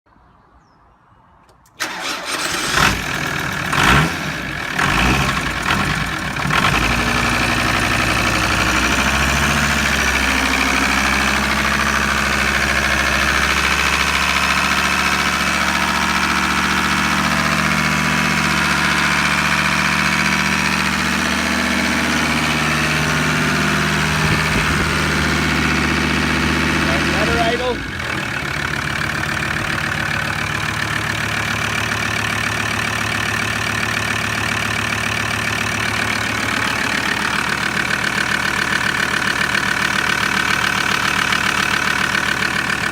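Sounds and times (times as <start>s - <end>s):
diesel engine starting and idling: 1.6s - 42.9s.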